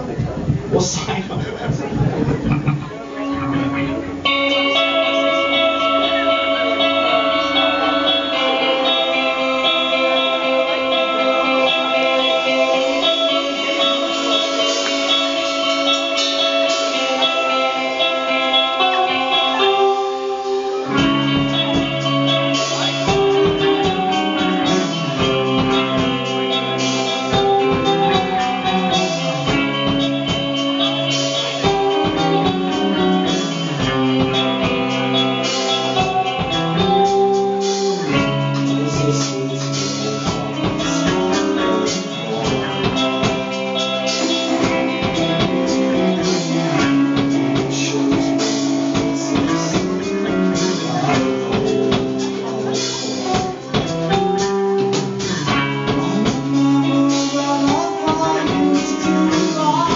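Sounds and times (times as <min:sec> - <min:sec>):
drum kit beat: 0:00.0 - 0:59.9
electric guitars: 0:00.0 - 0:59.9.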